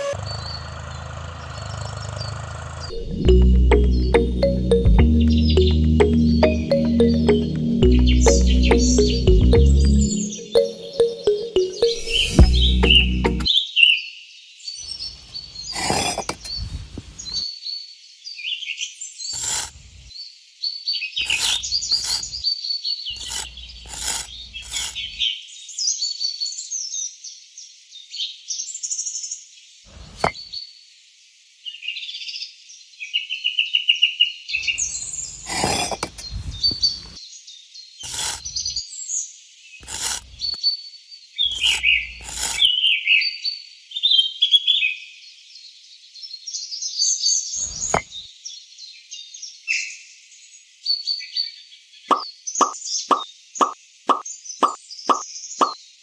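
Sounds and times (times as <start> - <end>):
small birds chirping: 0.0 - 14.1, 14.7 - 26.5, 29.5 - 30.9, 31.6 - 44.5, 45.2 - 56.0.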